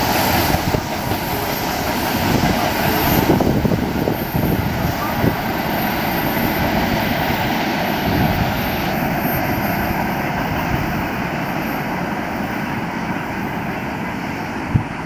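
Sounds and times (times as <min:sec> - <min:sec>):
freight train rolling on rails: 0:00.0 - 0:15.0.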